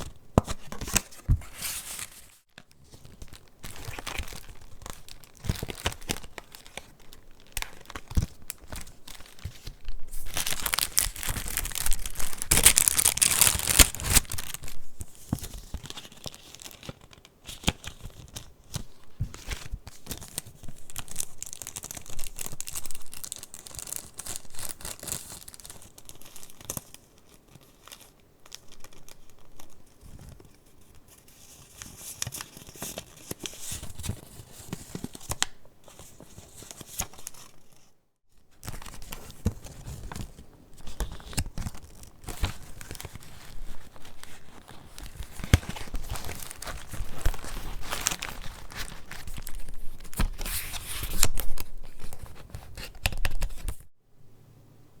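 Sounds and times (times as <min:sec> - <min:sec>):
paper rustling and crinkling: 0:00.0 - 0:37.9, 0:38.5 - 0:53.9.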